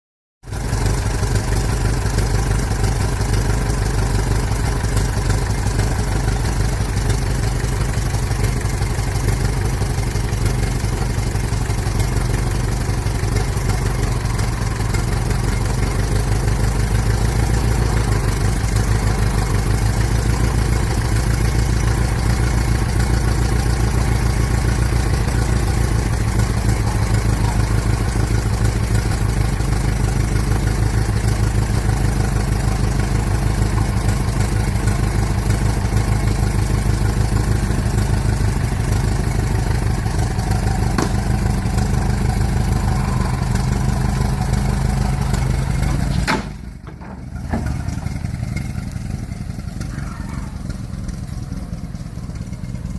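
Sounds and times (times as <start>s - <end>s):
car engine running steadily: 0.4s - 52.9s.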